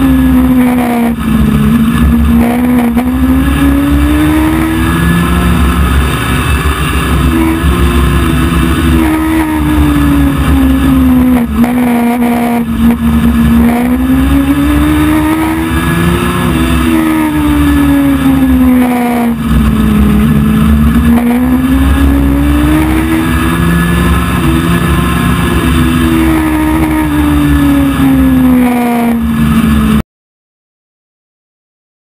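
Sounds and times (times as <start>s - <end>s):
race car engine: 0.0s - 30.0s.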